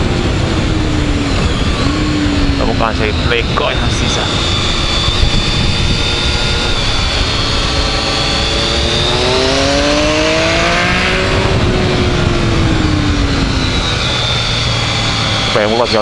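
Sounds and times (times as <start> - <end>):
motorcycle engine revving: 0.0 - 16.0
wind rush on microphone: 0.0 - 16.0.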